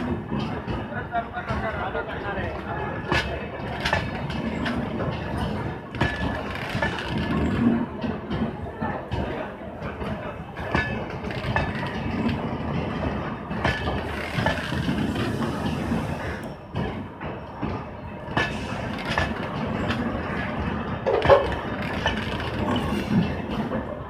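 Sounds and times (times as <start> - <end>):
train rumble: 0.0 - 24.0
train wheels clicking over rail joints: 0.0 - 24.0.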